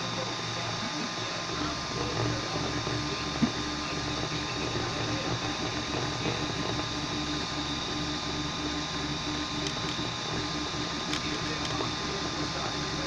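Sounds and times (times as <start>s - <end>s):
steady printer hum: 0.0s - 13.0s
stepper motors whirring: 0.0s - 13.0s.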